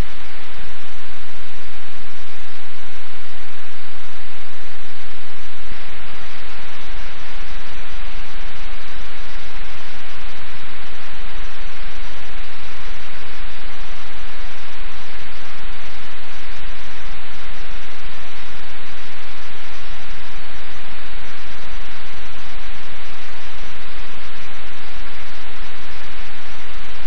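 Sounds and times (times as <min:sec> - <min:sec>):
loud static hiss: 0:00.0 - 0:27.0.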